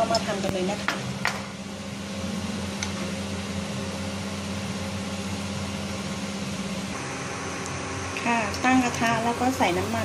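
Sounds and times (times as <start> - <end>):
machinery hum and hiss: 0.0 - 10.0.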